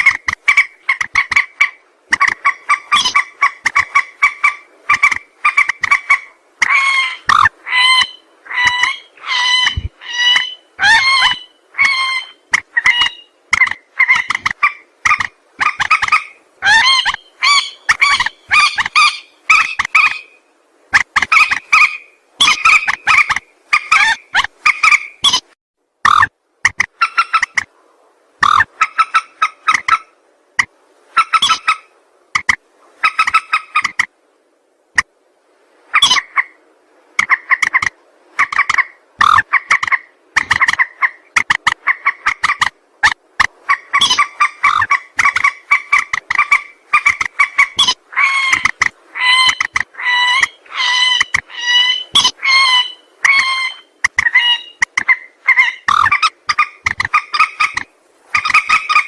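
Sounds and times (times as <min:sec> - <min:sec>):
rail bird calling: 0:00.0 - 0:25.5, 0:26.1 - 0:27.7, 0:28.4 - 0:30.1, 0:31.1 - 0:34.1, 0:35.9 - 0:36.6, 0:37.2 - 0:59.0.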